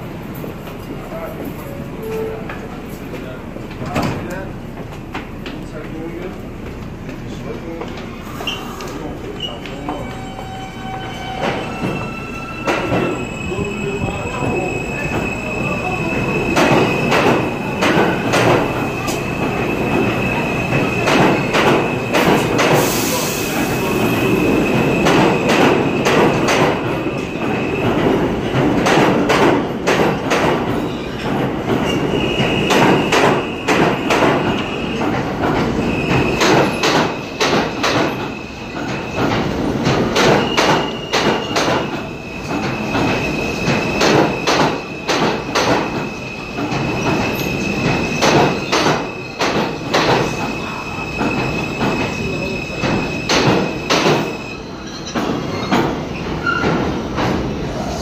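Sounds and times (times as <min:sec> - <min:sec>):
subway train wheels squealing: 0:00.0 - 0:03.6, 0:07.2 - 0:58.0
train rumble: 0:00.0 - 0:58.0.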